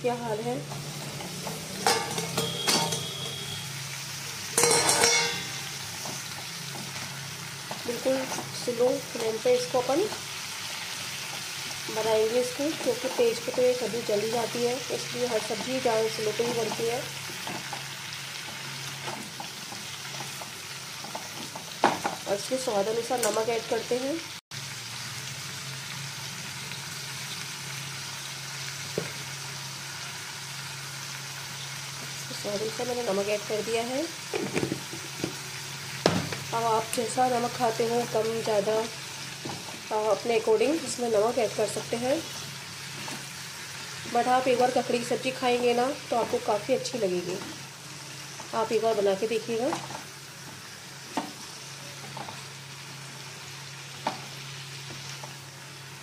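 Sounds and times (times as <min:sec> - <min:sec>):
food sizzling in oil: 0:00.0 - 0:56.0.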